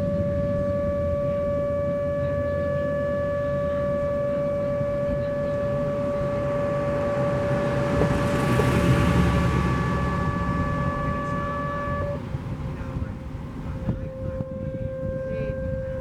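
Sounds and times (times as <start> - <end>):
electronic warning siren: 0.0 - 12.3, 13.7 - 16.0
broad rushing noise: 0.0 - 16.0.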